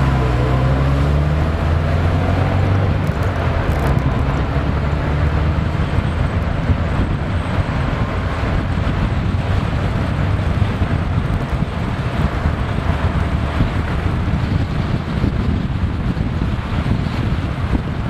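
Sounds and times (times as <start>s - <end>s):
truck road and engine noise: 0.0s - 18.0s
wind buffeting microphone: 0.0s - 18.0s.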